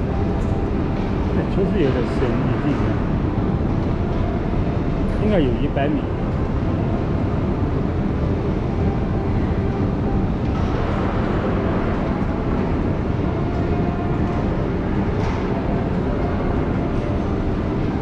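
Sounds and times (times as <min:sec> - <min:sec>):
passenger train running: 0:00.0 - 0:18.0.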